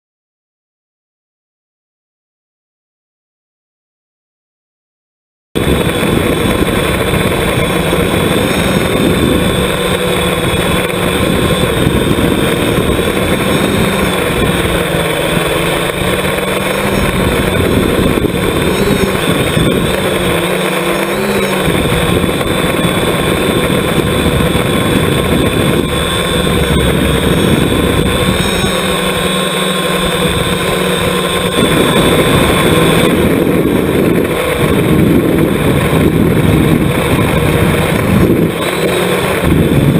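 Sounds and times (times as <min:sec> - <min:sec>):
drone motor whine: 0:05.6 - 0:39.9
rushing air: 0:05.6 - 0:39.9.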